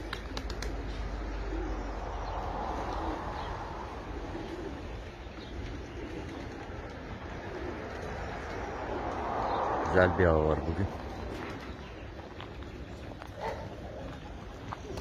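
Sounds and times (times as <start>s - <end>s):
steady low rumble: 0.0s - 14.8s
pigeons cooing: 0.0s - 15.0s.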